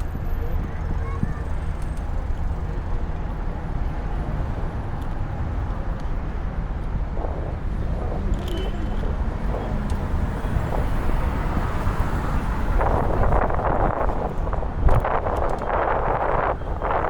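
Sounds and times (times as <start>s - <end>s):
traffic rumble: 0.0s - 17.0s
wind on microphone: 0.0s - 17.0s.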